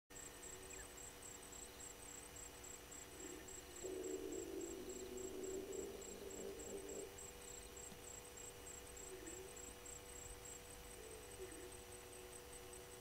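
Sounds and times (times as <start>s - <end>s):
faint insect chirping: 0.1s - 13.0s
low hum: 0.1s - 13.0s.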